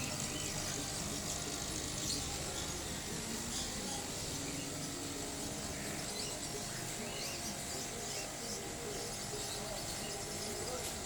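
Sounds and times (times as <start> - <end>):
caged birds chirring: 0.0 - 11.0.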